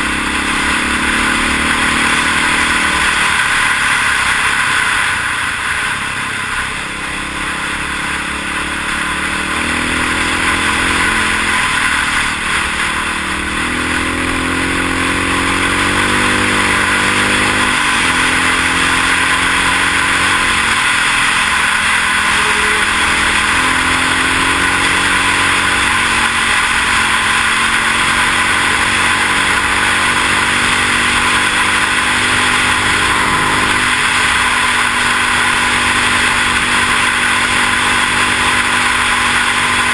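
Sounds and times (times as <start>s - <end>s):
dirt bike engine accelerating: 0.0s - 39.9s.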